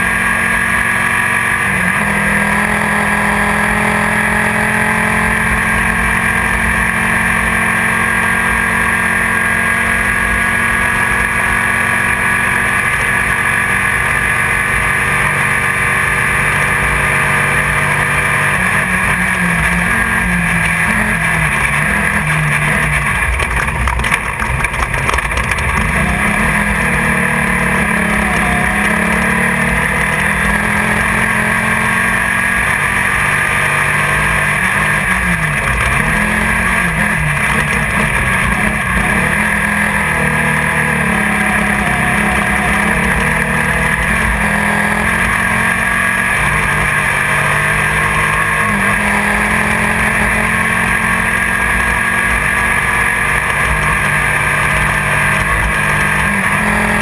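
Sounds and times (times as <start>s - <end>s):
race car engine running hard: 0.0s - 57.0s
rushing wind and road noise: 0.0s - 57.0s.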